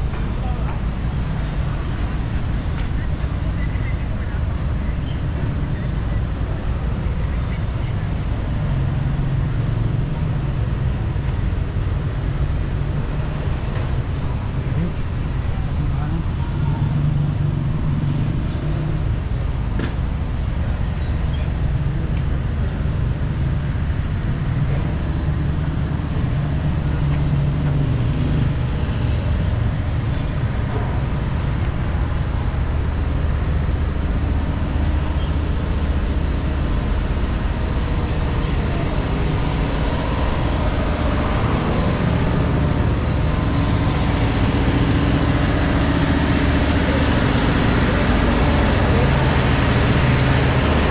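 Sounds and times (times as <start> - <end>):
vehicle approaching: 0.0 - 50.9
vehicle engines humming: 0.0 - 50.9.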